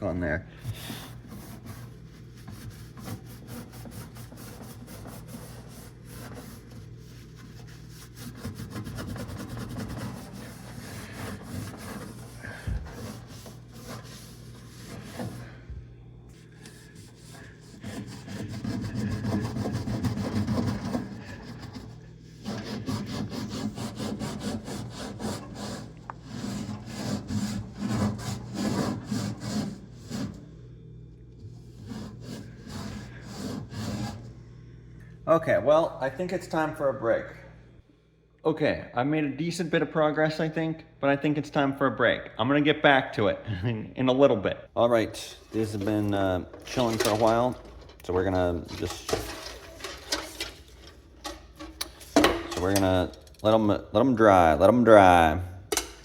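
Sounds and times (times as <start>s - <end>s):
hand scrubbing inside microwave: 0.0s - 34.7s, 44.9s - 56.0s.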